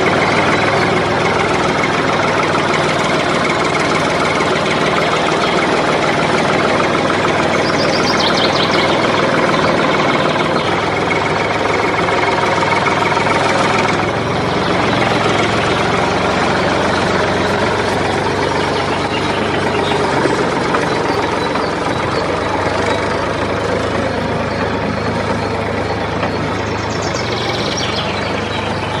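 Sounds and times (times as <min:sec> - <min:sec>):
tractor engine chugging: 0:00.0 - 0:29.0.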